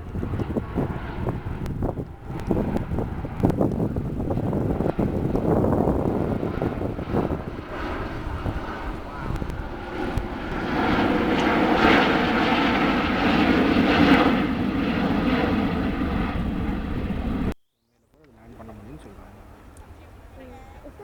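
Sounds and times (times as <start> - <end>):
jet aircraft flying overhead: 0.0 - 17.6.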